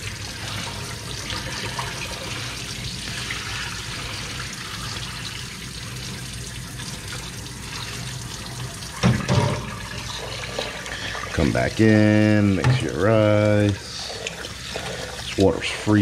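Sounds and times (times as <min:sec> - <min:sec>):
water splashing into sink: 0:00.0 - 0:16.0.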